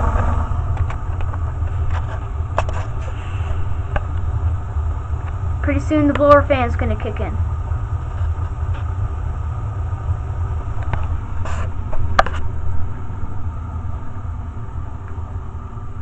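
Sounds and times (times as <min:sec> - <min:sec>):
gas furnace burner rumble: 0:00.0 - 0:16.0.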